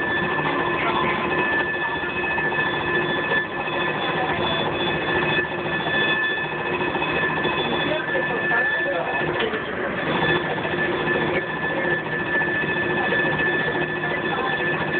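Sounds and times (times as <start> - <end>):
faint voices: 0.0 - 14.9
high-pitched electrical whine: 0.0 - 14.9.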